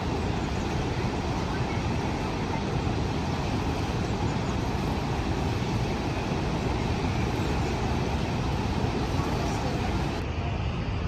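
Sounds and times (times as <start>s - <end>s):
waterfall crashing over rocks: 0.0s - 10.2s.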